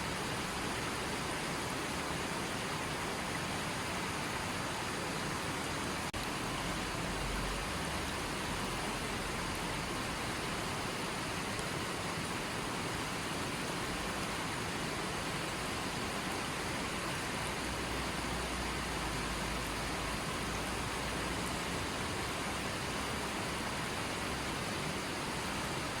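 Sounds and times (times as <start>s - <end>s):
stream running over stones: 0.0s - 26.0s.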